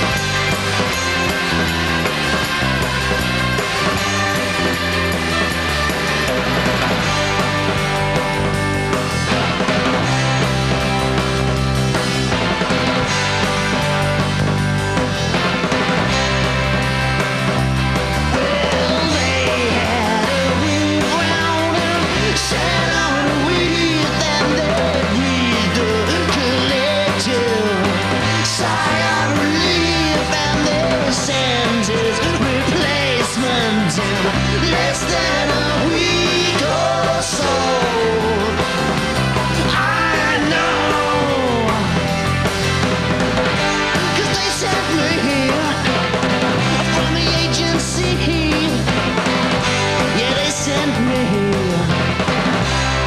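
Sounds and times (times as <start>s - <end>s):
bending lead guitar line: 0.0s - 53.0s
low bass notes: 0.0s - 53.0s
rock band playing: 0.0s - 53.0s.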